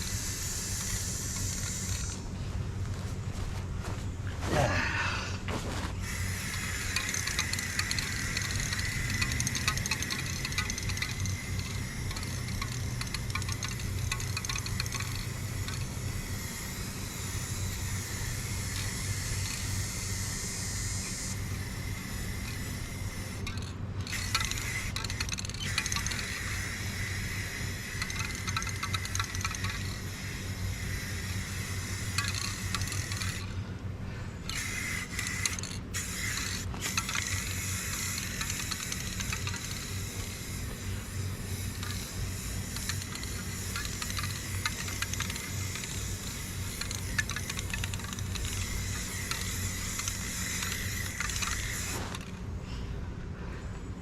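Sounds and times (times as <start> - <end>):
paint spraying hiss: 0.0 - 3.2, 5.9 - 33.6, 34.5 - 52.6.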